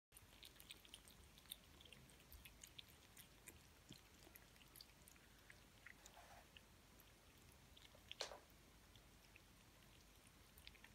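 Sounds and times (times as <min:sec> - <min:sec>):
kitten chewing and licking food: 0:00.1 - 0:10.9.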